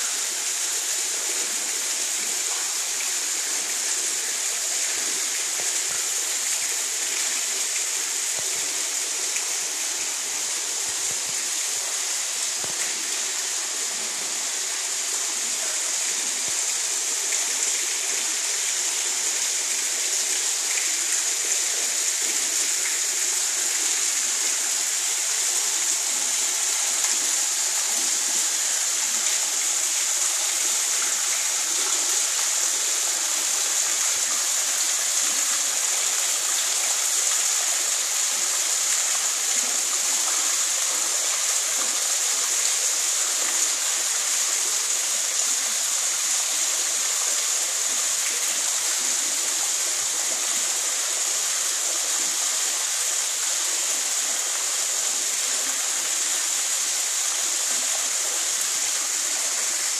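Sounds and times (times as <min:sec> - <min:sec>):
waterfall splashing into pool: 0:00.0 - 0:59.9.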